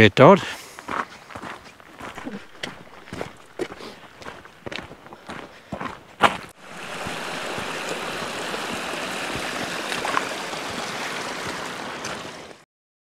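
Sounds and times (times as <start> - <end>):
stream running water: 0.2 - 12.6.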